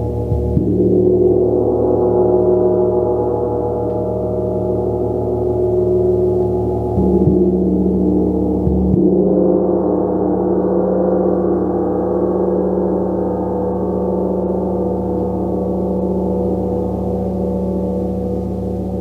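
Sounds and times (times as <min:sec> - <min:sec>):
gong resonating: 0:00.0 - 0:19.0.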